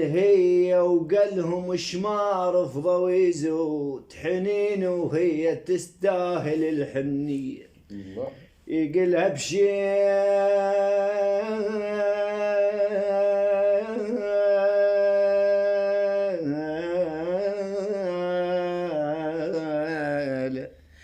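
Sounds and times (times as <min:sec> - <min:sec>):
man chanting a poem: 0:00.0 - 0:20.8.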